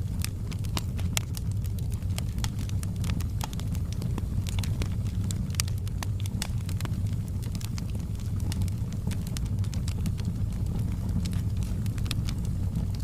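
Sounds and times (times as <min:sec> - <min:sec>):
fire low rumble: 0:00.0 - 0:13.0
firewood crackling and popping: 0:00.0 - 0:13.0.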